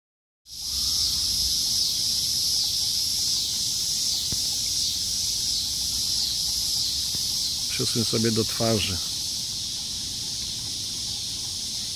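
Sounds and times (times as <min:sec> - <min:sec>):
insects chorus: 0:00.5 - 0:11.9.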